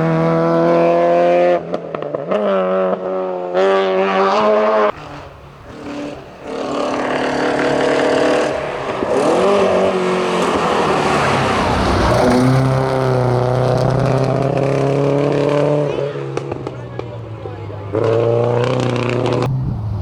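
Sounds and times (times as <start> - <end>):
another car engine revving: 0.0 - 20.0
race car engine revving hard: 0.0 - 20.0.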